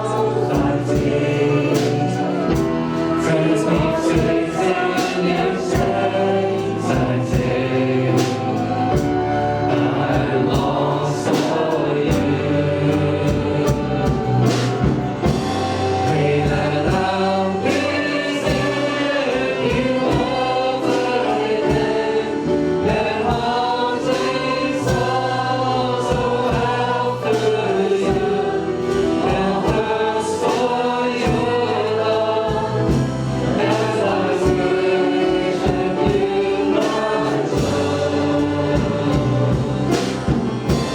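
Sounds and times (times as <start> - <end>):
band with drums: 0.0 - 40.9
group of voices singing: 0.0 - 40.9.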